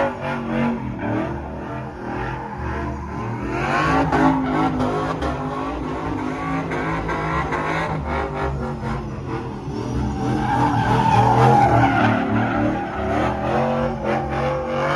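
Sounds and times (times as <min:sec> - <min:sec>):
car engine revving hard: 0:00.0 - 0:14.9.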